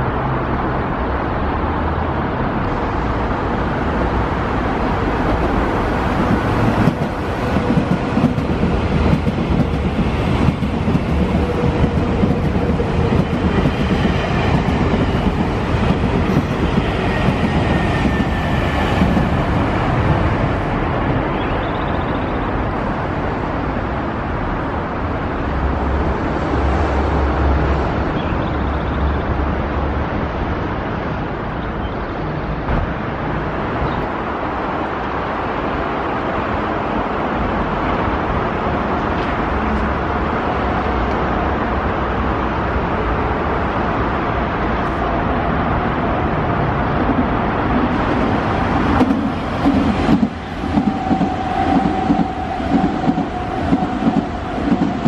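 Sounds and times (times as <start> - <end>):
electric train passing: 0.0 - 55.0
trains running on tracks: 0.0 - 55.0.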